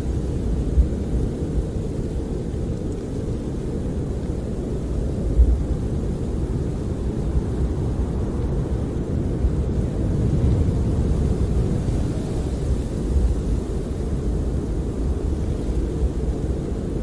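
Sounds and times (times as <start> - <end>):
muffled wind rumble: 0.0 - 17.0.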